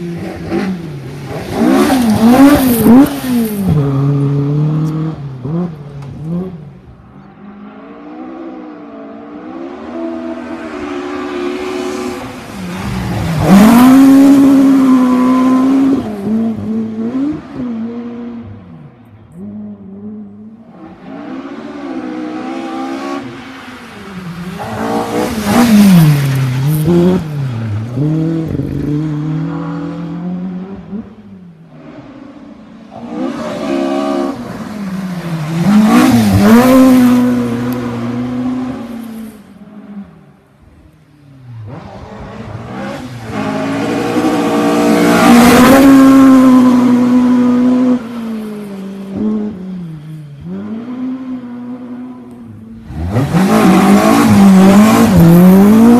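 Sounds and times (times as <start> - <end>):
rally car engine revving: 0.0 - 18.7, 19.3 - 39.3, 41.5 - 55.9.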